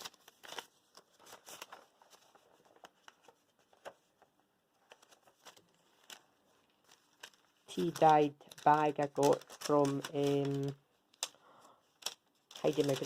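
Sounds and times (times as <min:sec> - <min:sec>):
paper pages turning: 0:00.0 - 0:13.0.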